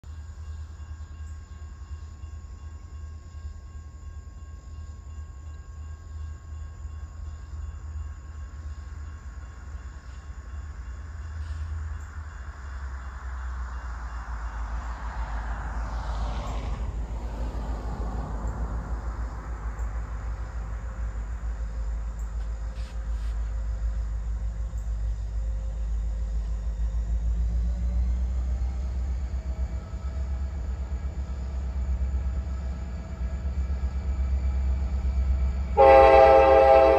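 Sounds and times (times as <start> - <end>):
diesel locomotive rumble: 0.0 - 36.9.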